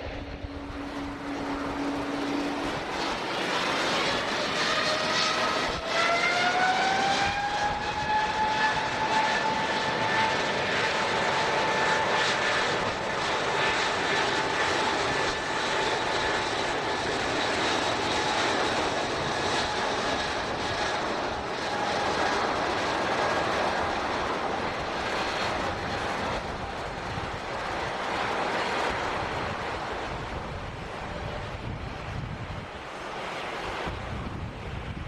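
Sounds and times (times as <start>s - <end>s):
airliner engines rushing: 0.0s - 35.0s
thin high engine whine: 0.0s - 35.0s.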